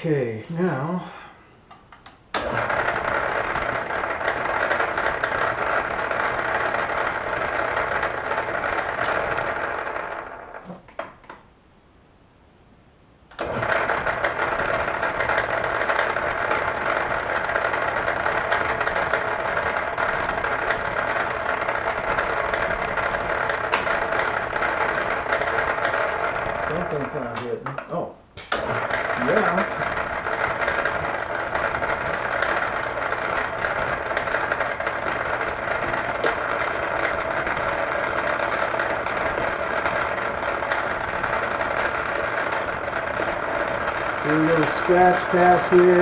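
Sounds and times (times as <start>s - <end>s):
metal lathe whirring: 2.4s - 11.1s, 13.3s - 27.8s, 28.6s - 46.0s.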